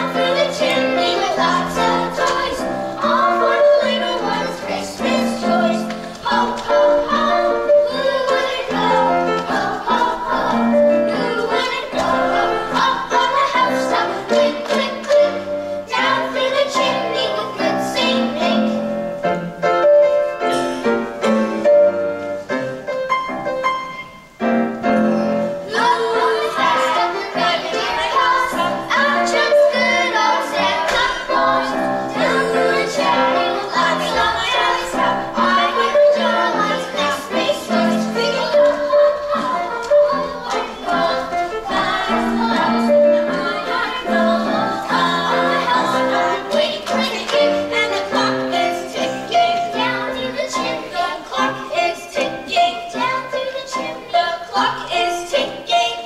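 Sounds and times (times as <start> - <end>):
children singing: 0.0 - 22.1, 24.9 - 56.0
instrumental accompaniment: 0.0 - 56.0.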